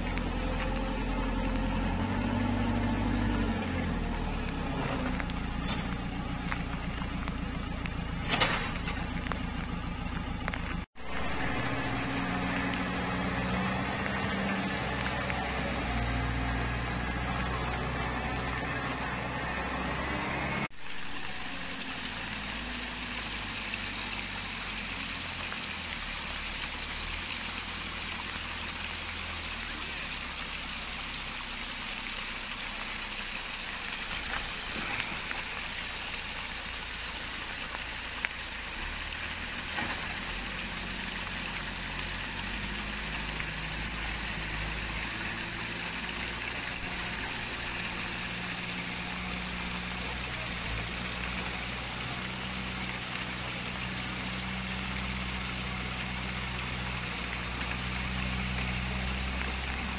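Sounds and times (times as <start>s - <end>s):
heavy rain hissing: 0.0s - 59.9s
vehicle engine idling: 0.0s - 59.9s.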